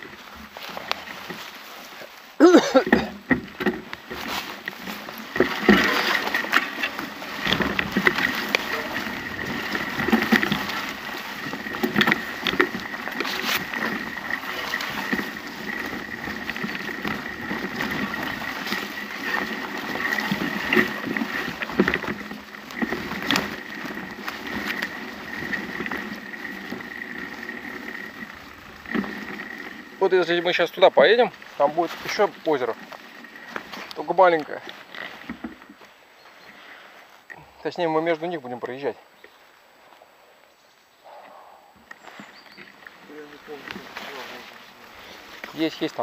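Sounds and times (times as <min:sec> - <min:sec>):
bicycle clicks and rattles: 0:00.0 - 0:37.4, 0:41.8 - 0:46.0
bicycle tyres rolling over leaves: 0:00.0 - 0:46.0.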